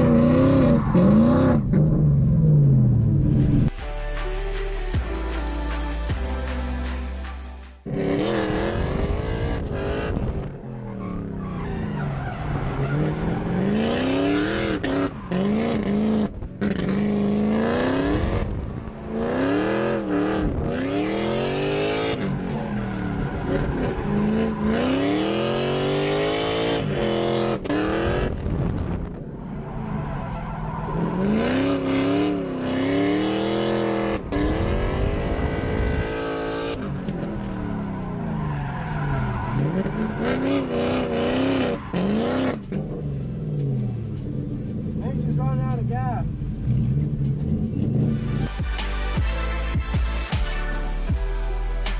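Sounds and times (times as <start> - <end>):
tyres skidding and squealing: 0.0 - 3.7, 6.9 - 51.9
car engine revving: 7.8 - 51.2.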